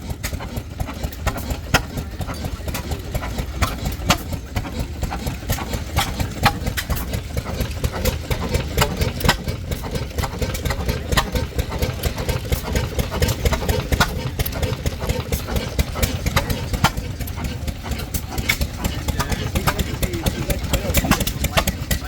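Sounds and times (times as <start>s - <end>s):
stationary engines running: 0.0s - 22.0s.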